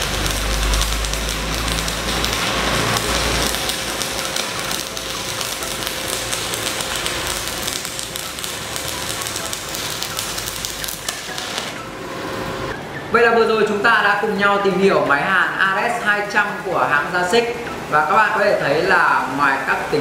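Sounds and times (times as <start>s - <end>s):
welding arc crackling and sizzling: 0.0s - 12.8s, 15.1s - 20.0s.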